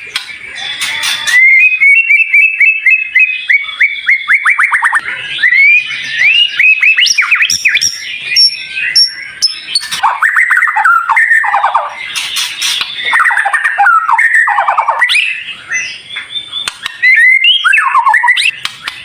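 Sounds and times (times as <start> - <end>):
bird harsh rasping call: 0.0 - 19.0
bird singing trills and whistles: 0.0 - 19.0.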